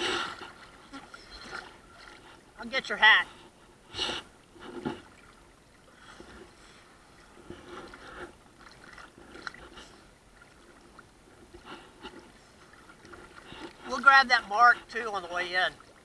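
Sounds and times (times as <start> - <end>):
low wash of water: 0.0 - 16.0
small waves lapping: 0.0 - 16.0.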